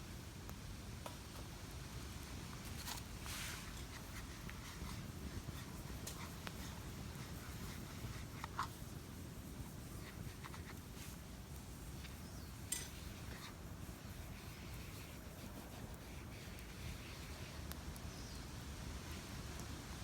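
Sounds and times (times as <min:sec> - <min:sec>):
faint outdoor rumble: 0:00.0 - 0:20.0.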